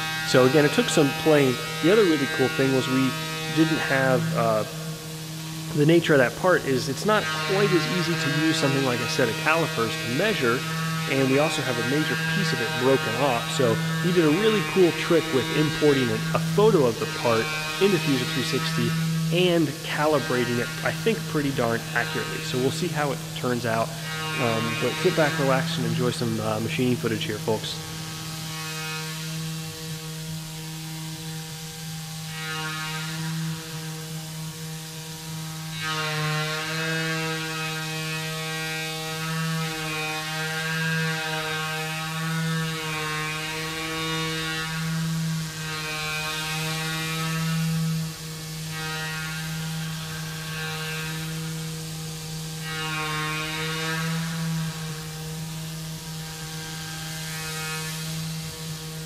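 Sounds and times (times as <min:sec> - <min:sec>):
mill spindle cutting aluminum: 0:00.0 - 0:59.0.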